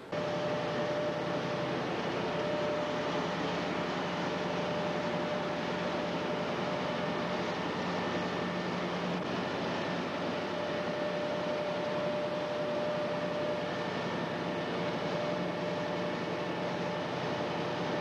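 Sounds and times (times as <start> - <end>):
boat engine drone: 0.0 - 18.0
faint steady whine: 0.0 - 18.0.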